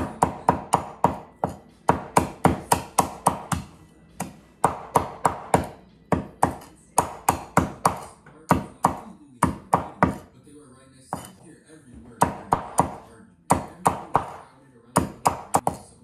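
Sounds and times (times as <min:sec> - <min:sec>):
cleaver chopping on wooden board: 0:00.0 - 0:10.3, 0:11.1 - 0:11.4, 0:12.2 - 0:14.4, 0:15.0 - 0:16.0.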